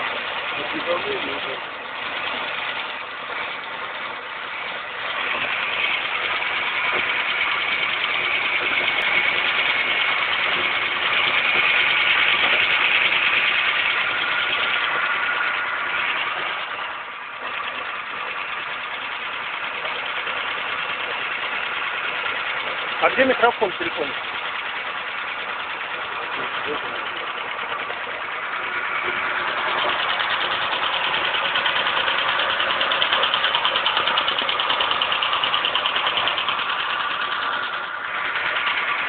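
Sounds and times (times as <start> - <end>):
car engine running: 0.0 - 39.0
engine knocking: 0.0 - 39.0.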